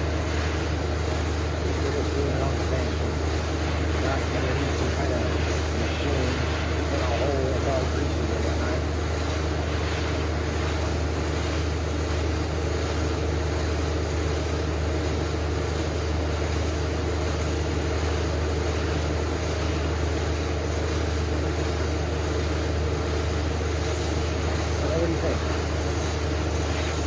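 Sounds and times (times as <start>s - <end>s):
machine humming with hiss: 0.0s - 27.0s.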